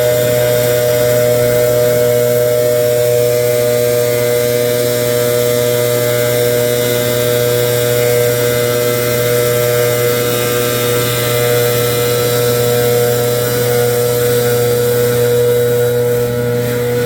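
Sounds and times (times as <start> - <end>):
leaf blower running: 0.0 - 17.0.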